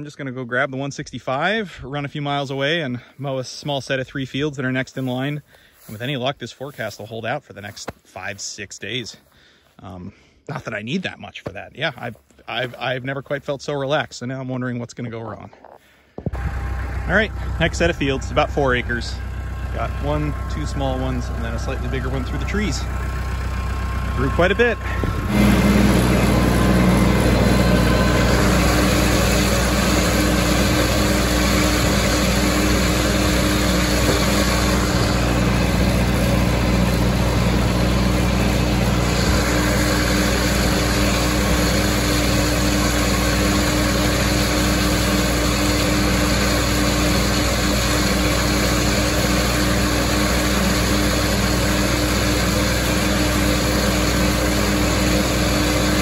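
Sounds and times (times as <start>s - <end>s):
tractor engine drone: 0.0s - 14.1s, 14.9s - 56.0s.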